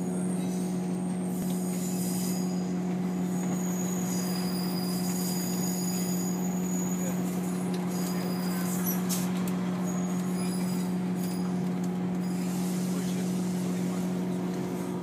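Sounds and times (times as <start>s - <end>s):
diesel train engine idling: 0.0s - 15.0s.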